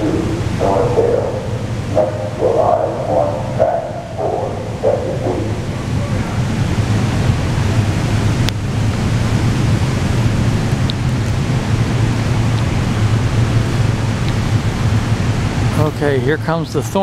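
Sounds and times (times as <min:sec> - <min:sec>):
rail station hum and rushing: 0:00.0 - 0:17.0.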